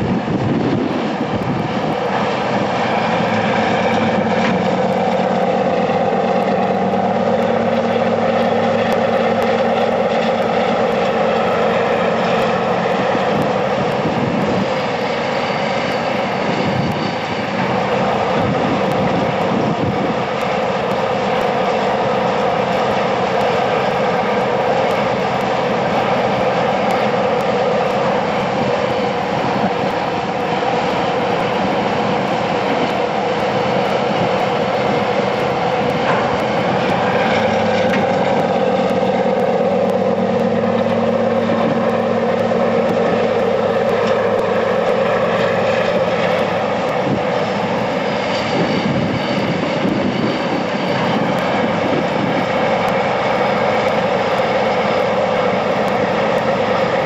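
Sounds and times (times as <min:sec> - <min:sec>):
deep hum: 0:00.0 - 0:57.0
diesel engine running: 0:00.0 - 0:57.0.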